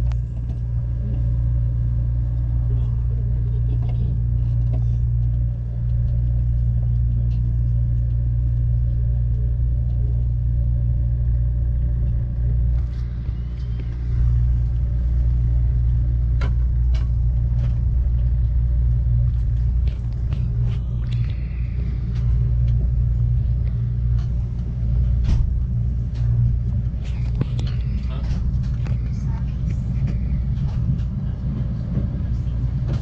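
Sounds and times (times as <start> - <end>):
train rumbling: 0.0 - 33.0.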